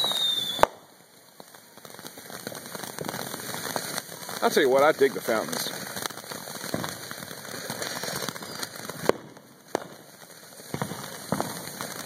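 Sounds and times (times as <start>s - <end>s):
firework crackling hiss: 0.0s - 12.0s
firework pops: 0.0s - 12.0s.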